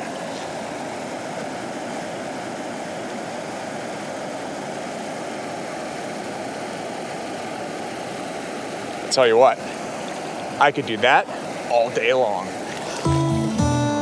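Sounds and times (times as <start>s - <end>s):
stream water rushing: 0.0s - 13.6s.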